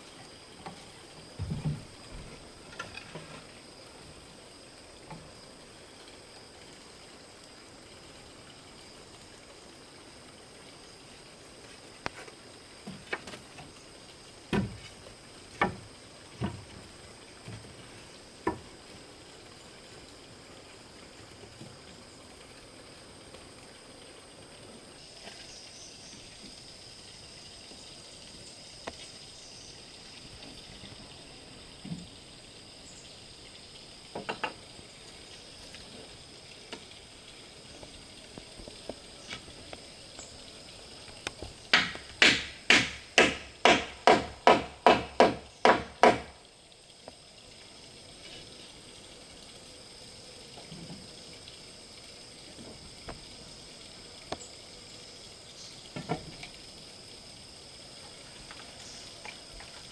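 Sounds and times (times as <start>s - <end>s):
faint high-pitched hiss: 0.0s - 59.9s.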